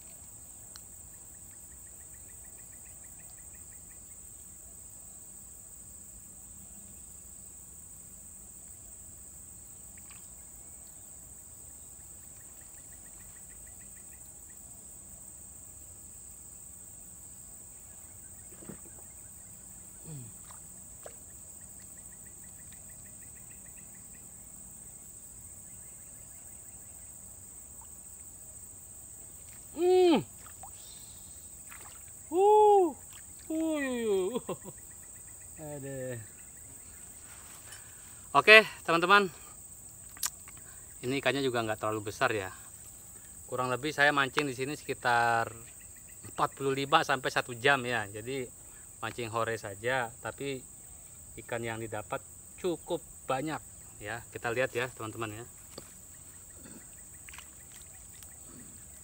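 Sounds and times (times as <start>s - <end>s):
insect chirping trills: 0.0s - 59.0s
insects droning: 0.0s - 59.0s.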